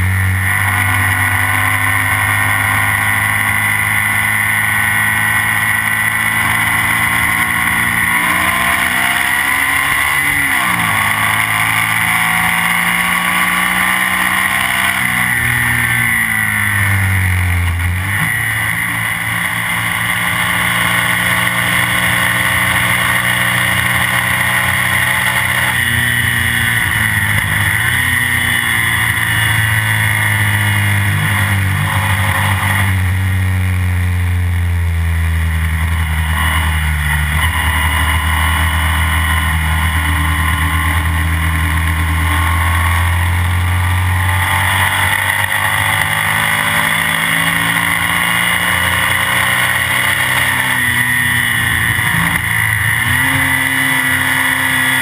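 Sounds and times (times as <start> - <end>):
sidecar engine revving: 0.0 - 55.0.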